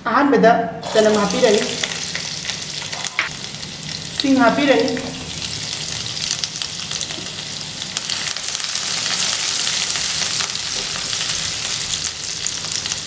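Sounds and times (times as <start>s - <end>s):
garlic sizzling in hot oil: 0.8s - 13.0s.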